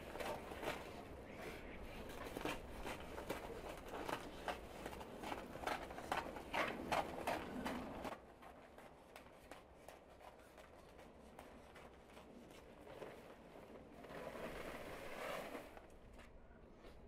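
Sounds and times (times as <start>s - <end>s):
materials rustling and clicking: 2.0s - 16.0s.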